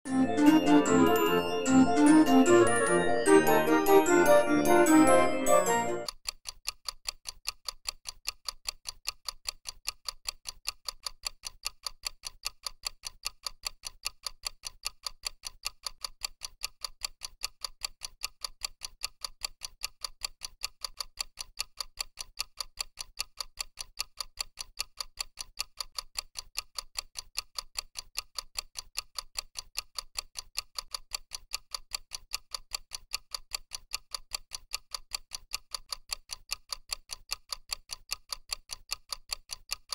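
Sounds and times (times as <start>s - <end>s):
clock ticking: 0.1s - 39.9s.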